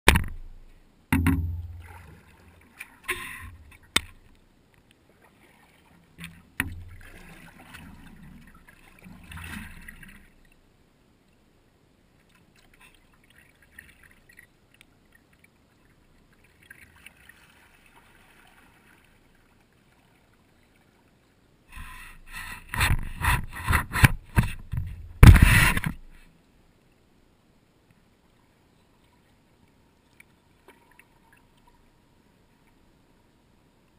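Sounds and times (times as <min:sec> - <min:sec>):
kayak paddle splashing: 0:00.1 - 0:10.7, 0:12.2 - 0:26.3, 0:29.0 - 0:31.8.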